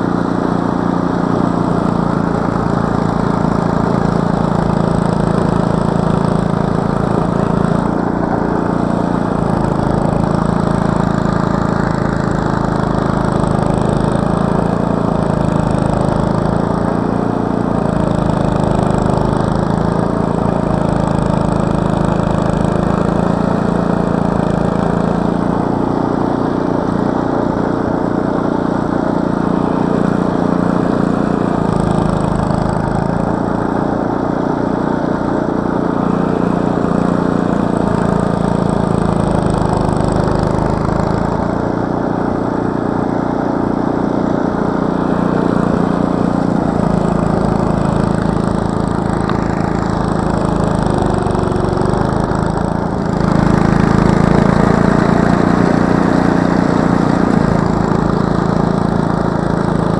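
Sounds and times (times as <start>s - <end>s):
snowblower engine running: 0.0s - 59.9s.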